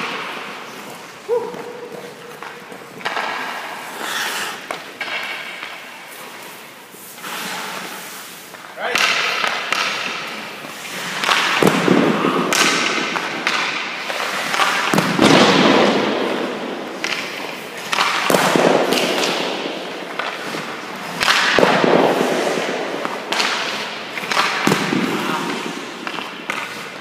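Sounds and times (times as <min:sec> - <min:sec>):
hockey puck cracks: 0:00.0 - 0:06.5, 0:07.2 - 0:27.0
scraping and rink reverberation: 0:00.0 - 0:27.0.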